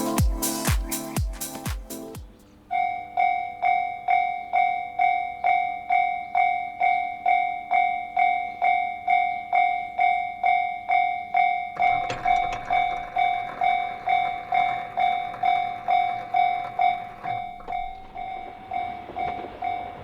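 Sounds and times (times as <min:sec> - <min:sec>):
level crossing warning bell: 0:02.7 - 0:20.0.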